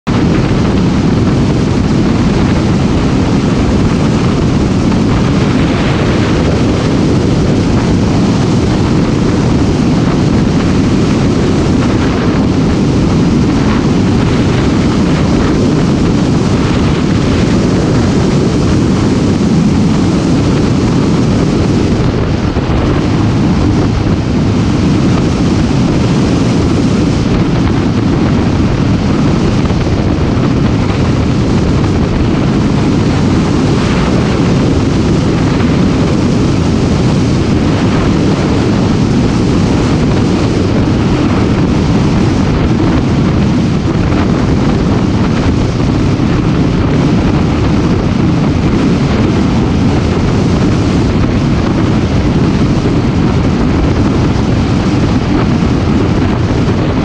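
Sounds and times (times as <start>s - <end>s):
motorcycle engine running: 0.0s - 57.0s
wind rumble on microphone: 0.0s - 57.0s.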